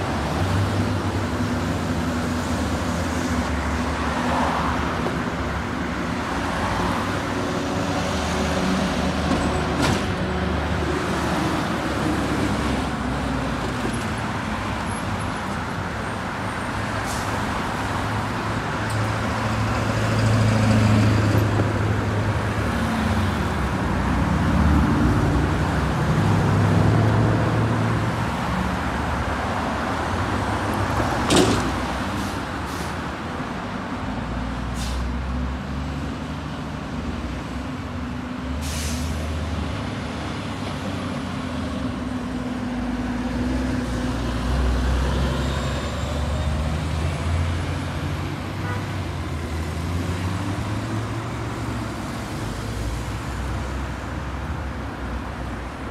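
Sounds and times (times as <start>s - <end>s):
vehicles passing close by: 0.0s - 55.9s.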